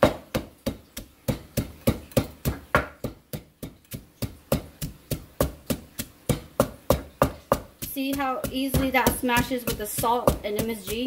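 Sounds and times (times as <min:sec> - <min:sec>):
pestle pounding in mortar: 0:00.0 - 0:11.0.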